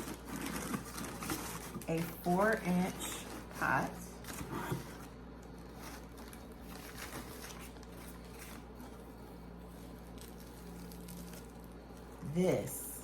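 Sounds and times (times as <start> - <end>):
packing material rustling: 0.0 - 12.2
low steady hum: 0.0 - 13.0.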